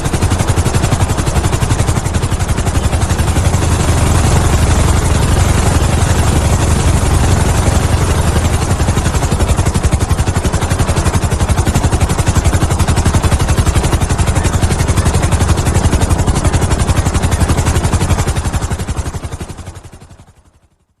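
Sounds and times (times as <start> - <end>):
helicopter engine hiss: 0.0 - 20.1
helicopter rotor chop: 0.0 - 20.7.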